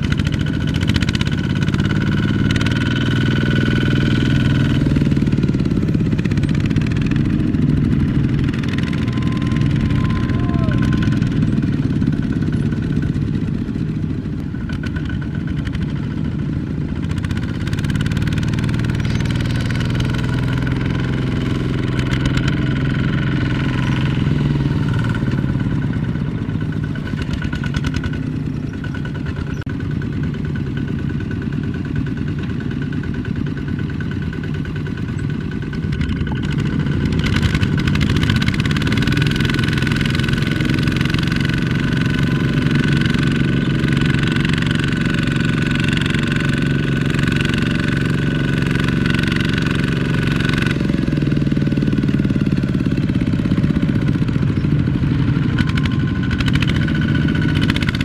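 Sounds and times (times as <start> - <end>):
clatter: 0.0 - 9.9, 10.8 - 58.0
diesel tiller engines running: 0.0 - 58.0.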